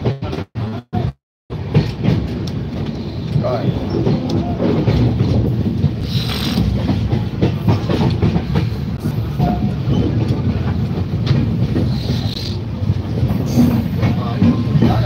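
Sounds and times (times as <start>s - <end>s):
train wheels rumbling on track: 0.0s - 15.0s
rapid clacking over rail joints: 1.5s - 15.0s.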